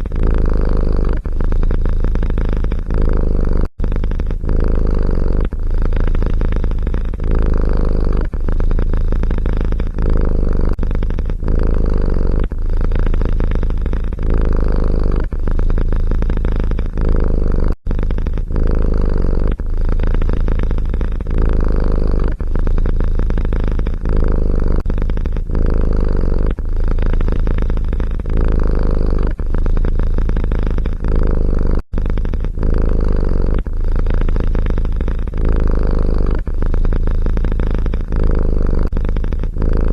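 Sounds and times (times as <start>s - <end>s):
cat purring loudly: 0.0s - 39.9s.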